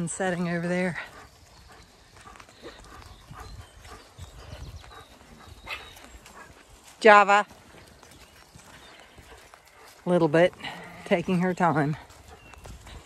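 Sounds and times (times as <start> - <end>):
footsteps on wet grass: 0.0 - 13.0.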